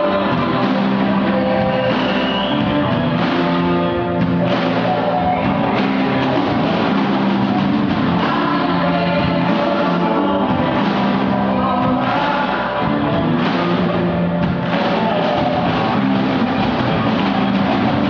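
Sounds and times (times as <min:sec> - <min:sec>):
person singing: 0:00.0 - 0:03.4, 0:04.4 - 0:18.0
live band music: 0:00.0 - 0:18.0.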